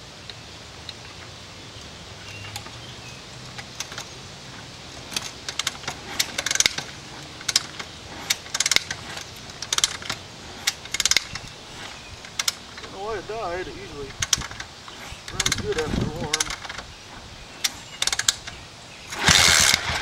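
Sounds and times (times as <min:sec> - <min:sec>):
motorcycle kick-start clicks and clatter: 0:02.2 - 0:13.1, 0:13.9 - 0:20.0.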